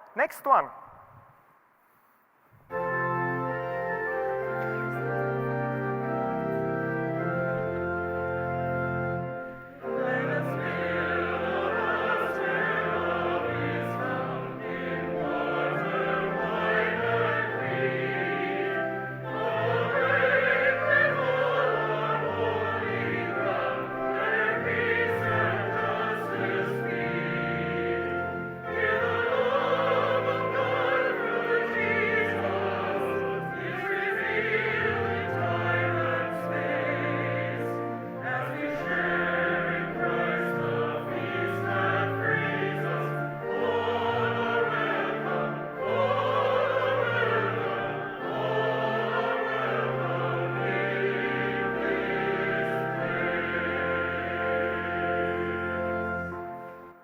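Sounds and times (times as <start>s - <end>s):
organ chords: 2.6s - 57.0s
voices singing a hymn: 2.7s - 57.0s.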